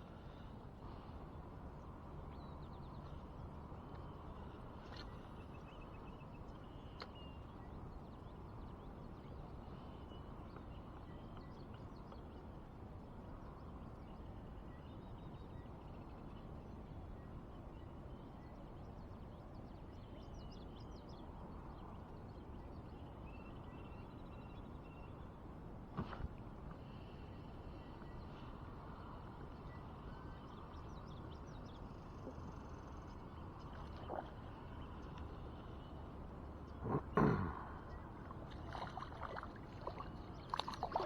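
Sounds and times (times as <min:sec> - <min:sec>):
low outdoor background rush: 0:00.0 - 0:41.0.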